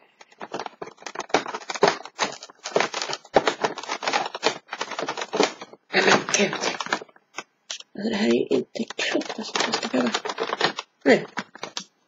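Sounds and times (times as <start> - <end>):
cardboard rustling and scraping: 0.2 - 7.2, 9.0 - 11.8.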